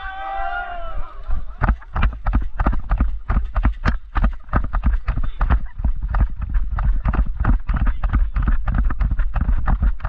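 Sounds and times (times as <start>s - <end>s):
running footsteps: 1.1s - 10.0s
knocking and thumping: 1.6s - 10.0s.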